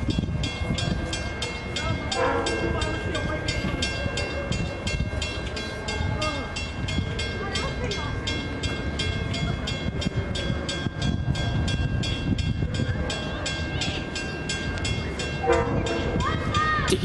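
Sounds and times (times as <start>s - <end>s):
train rumbling with fast clicking: 0.0s - 17.0s.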